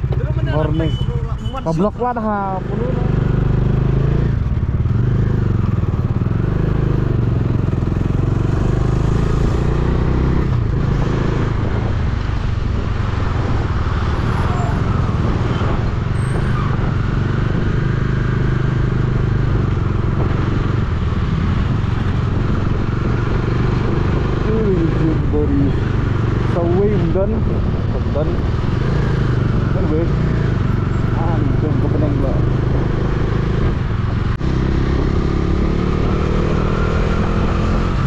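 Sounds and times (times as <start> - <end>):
road noise: 0.0 - 38.0
motorcycle engine running: 1.8 - 38.0.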